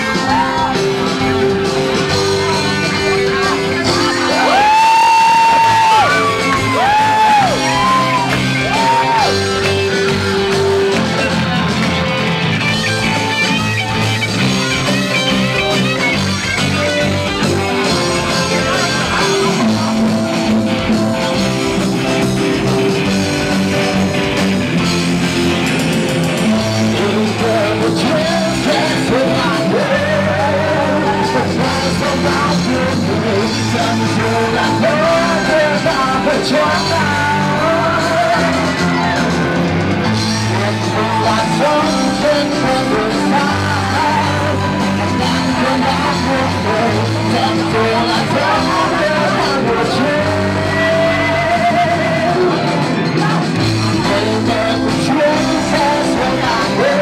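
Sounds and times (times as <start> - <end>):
rock band playing with vocals: 0.0 - 57.0.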